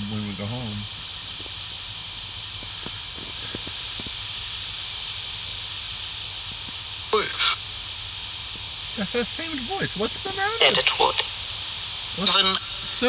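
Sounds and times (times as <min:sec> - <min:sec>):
insects calling in chorus: 0:00.0 - 0:13.0.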